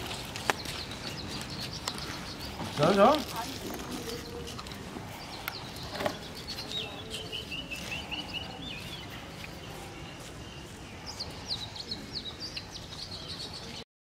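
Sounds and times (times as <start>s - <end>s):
small birds chirping: 0.0s - 13.8s.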